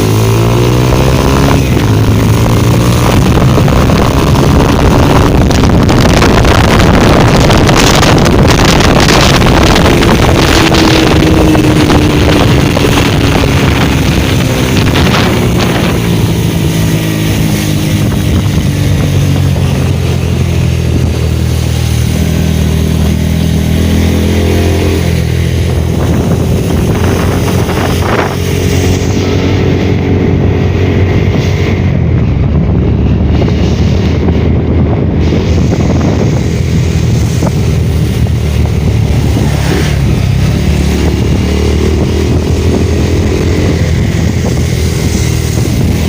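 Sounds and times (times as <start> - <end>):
motorcycle engine running: 0.0 - 46.0
wind rush on microphone: 0.0 - 46.0.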